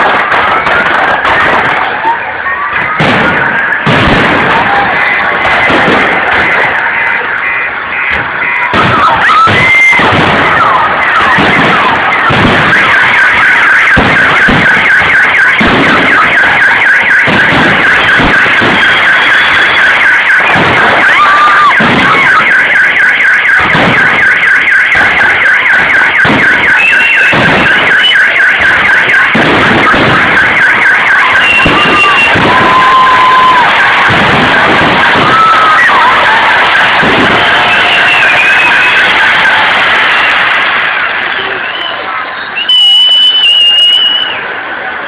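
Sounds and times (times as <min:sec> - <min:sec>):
fireworks shells booming: 0:00.0 - 0:41.4
fireworks whistles: 0:00.0 - 0:44.5
fireworks crackling: 0:00.0 - 0:45.0.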